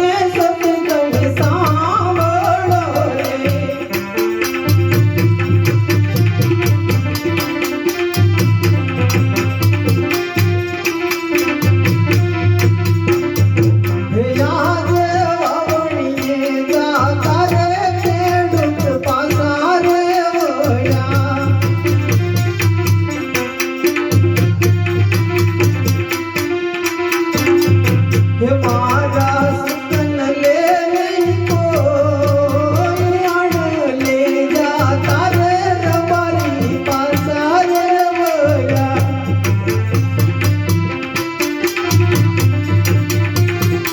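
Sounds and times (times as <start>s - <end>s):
hand drums rhythm: 0.0s - 43.9s.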